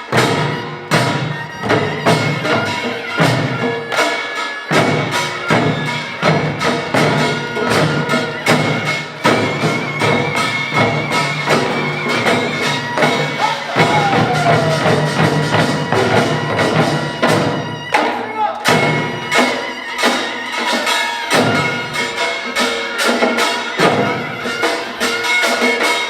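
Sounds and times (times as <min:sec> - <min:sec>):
drums: 0:00.0 - 0:26.0.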